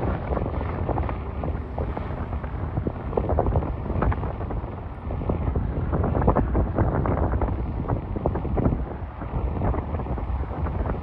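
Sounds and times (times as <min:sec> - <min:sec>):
turboprop aircraft droning overhead: 0:00.0 - 0:11.0.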